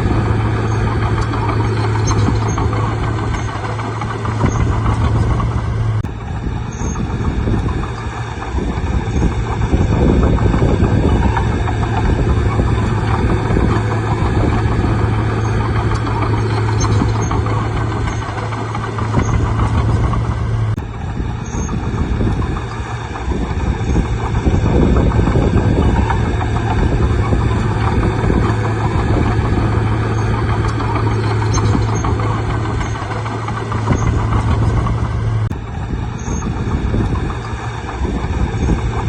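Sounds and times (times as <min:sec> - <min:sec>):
bulldozer diesel engine humming: 0:00.0 - 0:39.0.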